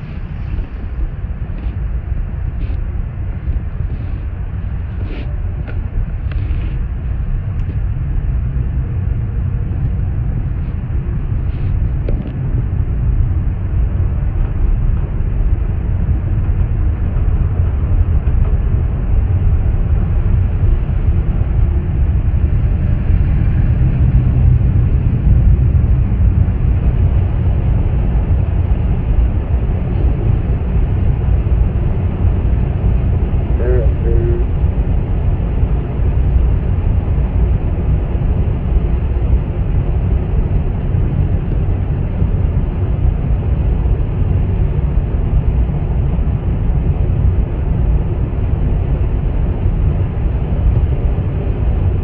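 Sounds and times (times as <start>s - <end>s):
car wash machinery rumble: 0.0s - 52.0s.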